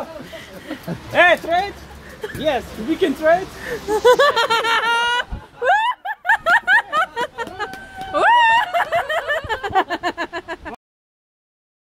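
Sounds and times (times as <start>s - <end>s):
men whooping and laughing: 0.0s - 2.4s, 3.5s - 10.8s.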